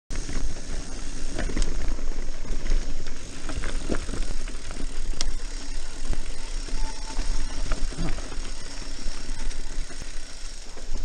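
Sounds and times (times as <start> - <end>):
bike rattling and clicking: 0.1 - 11.0
tyres running over dirt: 0.1 - 11.0.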